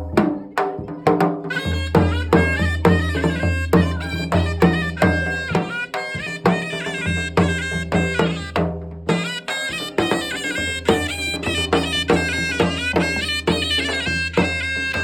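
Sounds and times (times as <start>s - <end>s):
steady drum beat: 0.0s - 15.0s
music melody: 1.5s - 15.0s.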